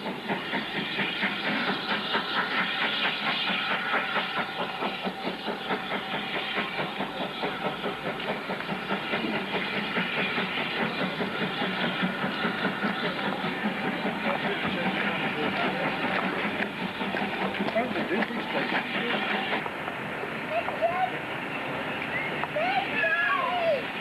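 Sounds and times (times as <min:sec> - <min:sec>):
steam hiss: 0:00.0 - 0:24.0
steam train chugging: 0:00.0 - 0:24.0.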